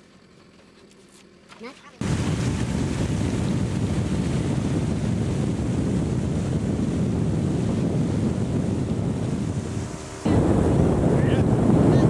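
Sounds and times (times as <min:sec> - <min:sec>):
water rushing past boat: 0:02.0 - 0:12.0
wind buffeting microphone: 0:02.0 - 0:12.0.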